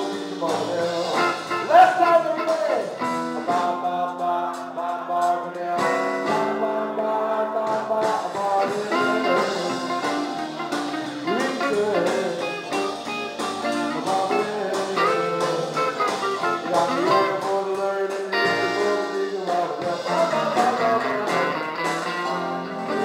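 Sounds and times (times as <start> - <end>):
electric guitar: 0.0 - 5.1, 5.7 - 23.0
live rock band playing: 0.0 - 23.0.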